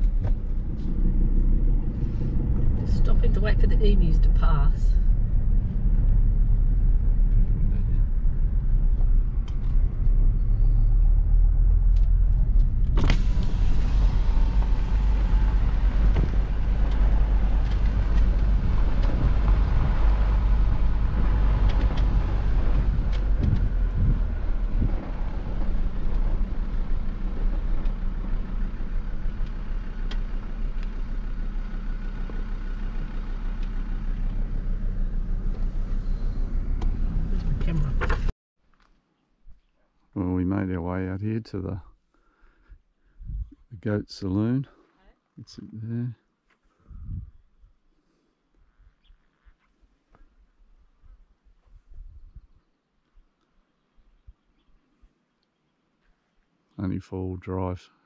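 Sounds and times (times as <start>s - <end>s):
engine and tyre rumble: 0.0s - 39.0s, 46.4s - 58.0s.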